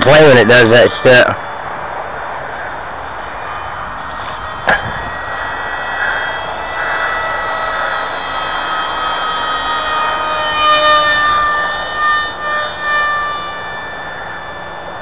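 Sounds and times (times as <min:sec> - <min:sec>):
model plane electric motor whining: 0:00.0 - 0:15.0.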